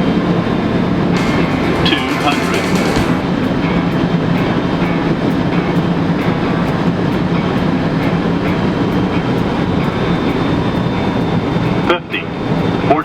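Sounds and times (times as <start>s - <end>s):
cockpit airflow and engine noise: 0.0s - 13.0s
faint regular ticking: 1.2s - 13.0s.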